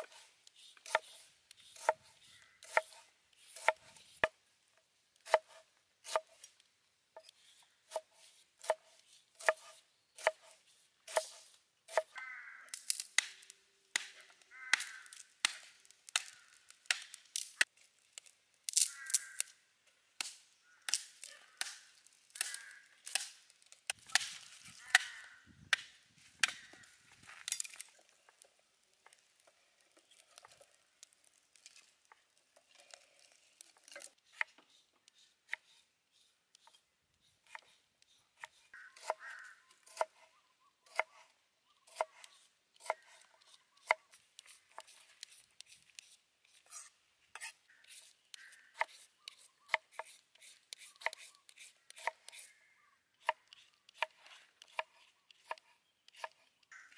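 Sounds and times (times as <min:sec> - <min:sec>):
knife chopping firewood: 0:00.0 - 0:04.4, 0:05.2 - 0:06.6, 0:07.2 - 0:19.4, 0:20.2 - 0:28.4, 0:32.8 - 0:41.3, 0:41.9 - 0:52.6, 0:53.2 - 0:56.9.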